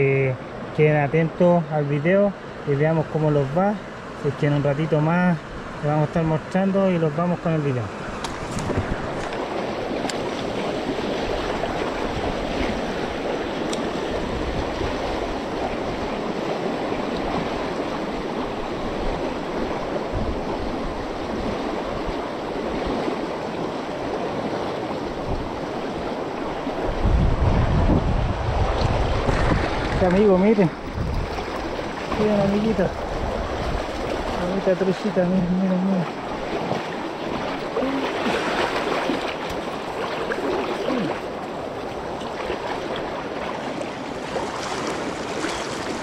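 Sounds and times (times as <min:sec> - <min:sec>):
stream rushing over rapids: 0:00.0 - 0:46.0
wind buffeting microphone: 0:08.0 - 0:46.0.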